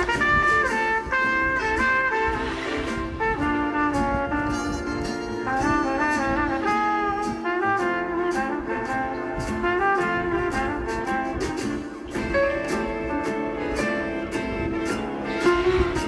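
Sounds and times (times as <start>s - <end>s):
jazz music with horn melody: 0.0s - 16.0s.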